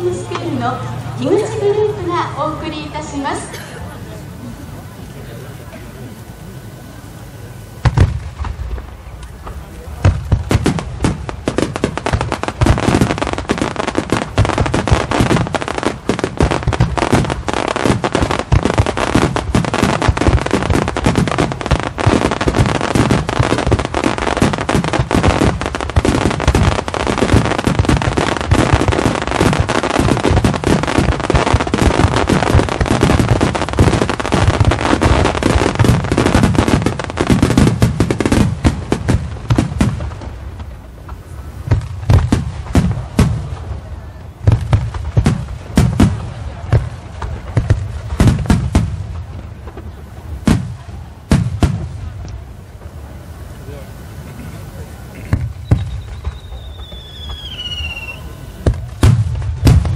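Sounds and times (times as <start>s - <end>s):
fireworks bursting with crackling: 0.0s - 59.9s.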